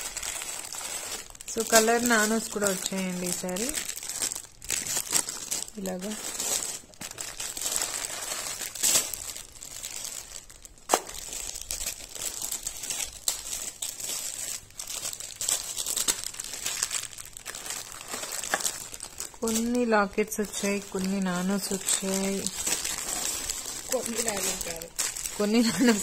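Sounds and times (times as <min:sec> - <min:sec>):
plastic bags crinkling: 0:00.0 - 0:26.0.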